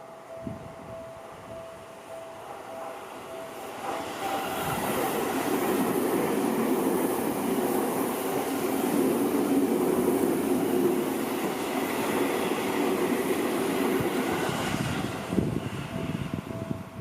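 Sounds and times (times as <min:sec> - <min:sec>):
railway crossing bell ringing: 0:00.0 - 0:17.0
train wheels running on rails: 0:00.0 - 0:17.0.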